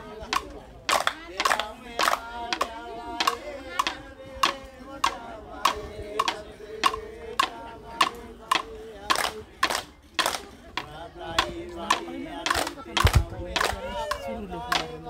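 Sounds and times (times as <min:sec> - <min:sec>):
group voices chanting: 0:00.0 - 0:15.0
sharp percussive beats: 0:00.0 - 0:15.0.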